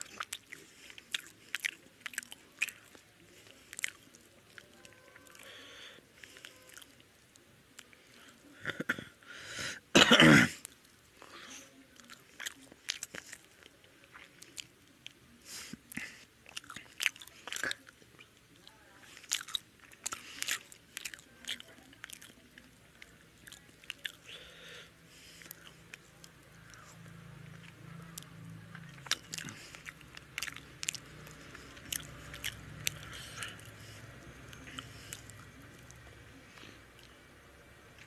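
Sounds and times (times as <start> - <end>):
person chewing and eating: 0.0 - 8.8, 10.6 - 37.2.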